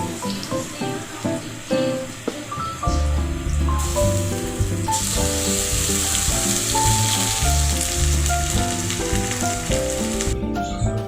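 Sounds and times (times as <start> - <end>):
food sizzling in a pan: 0.0 - 10.4
background music with held notes: 0.0 - 11.0.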